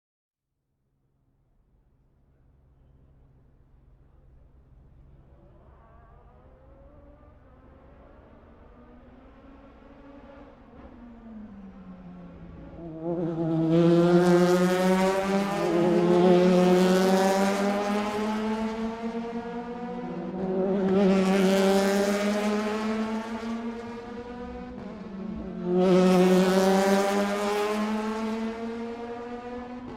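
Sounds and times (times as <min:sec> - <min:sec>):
race cars passing at speed: 0:04.5 - 0:29.9.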